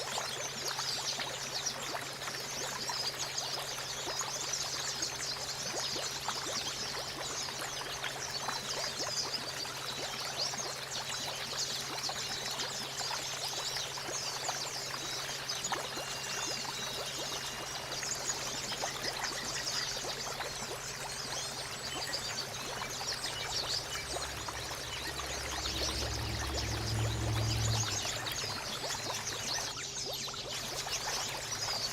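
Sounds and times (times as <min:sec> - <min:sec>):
small water splashes: 0:00.0 - 0:31.9.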